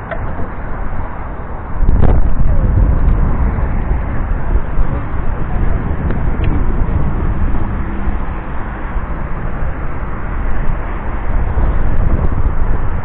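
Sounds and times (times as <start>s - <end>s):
heavy low rumble: 0.0s - 13.0s.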